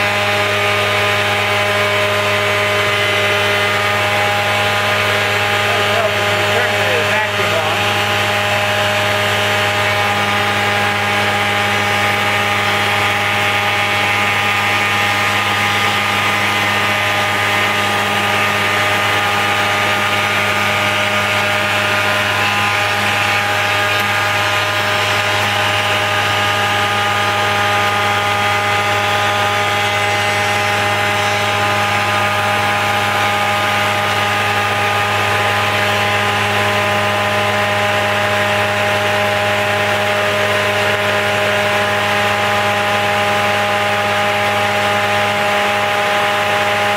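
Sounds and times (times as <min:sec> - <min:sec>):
woodworking machine humming: 0:00.0 - 0:46.9.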